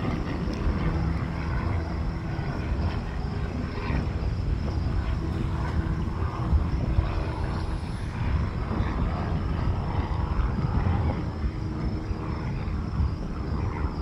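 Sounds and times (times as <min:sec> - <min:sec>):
distant jet engines rumbling: 0:00.0 - 0:14.0
wind buffeting microphone: 0:00.0 - 0:14.0.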